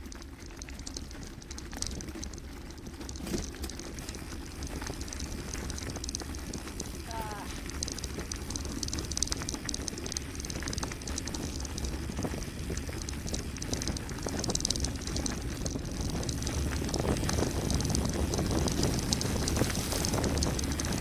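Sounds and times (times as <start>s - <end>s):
bike tyres rolling on gravel: 0.0s - 21.0s.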